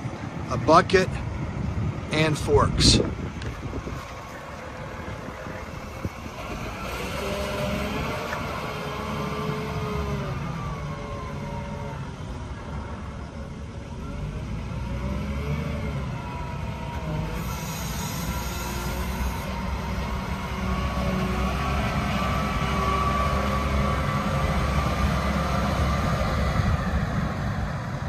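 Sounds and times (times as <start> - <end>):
wheel loader diesel engine: 0.0 - 28.0
whining tones: 3.2 - 28.0.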